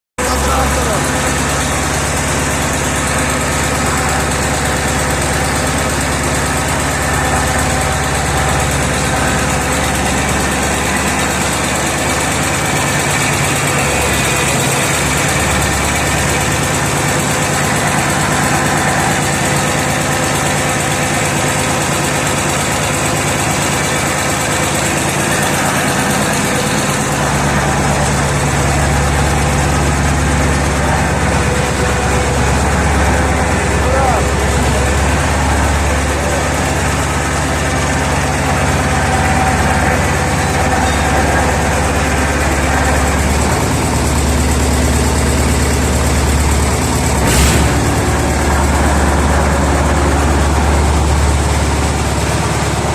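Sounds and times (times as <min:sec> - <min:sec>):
diesel engine idling: 0:00.2 - 0:52.9.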